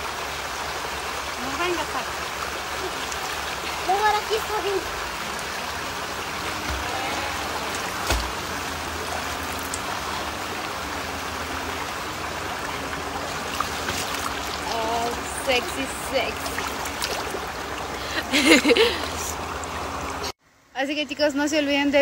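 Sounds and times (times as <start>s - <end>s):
stream running water: 0.0s - 22.0s.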